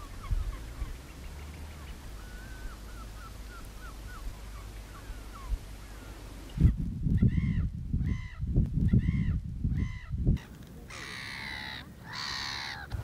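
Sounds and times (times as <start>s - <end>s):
wind buffeting microphone: 0.0s - 10.9s
birds calling: 0.0s - 13.0s.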